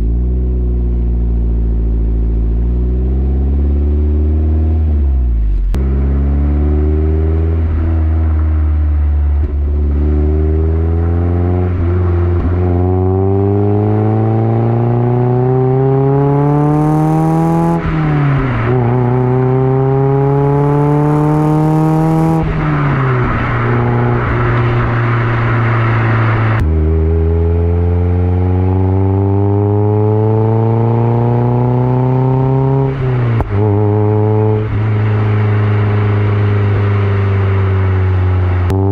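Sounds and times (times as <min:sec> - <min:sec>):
car engine accelerating through gears: 0:00.0 - 0:38.9.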